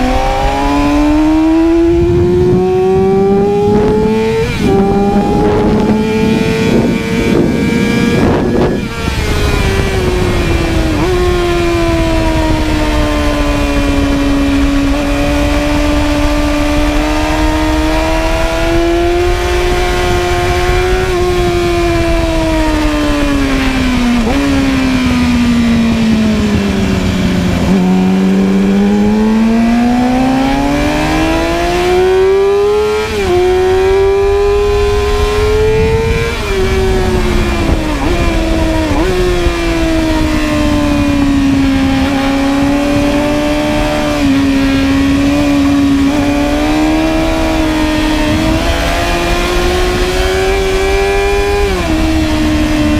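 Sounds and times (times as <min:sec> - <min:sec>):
sport bike engine at high revs: 0:00.0 - 0:52.9.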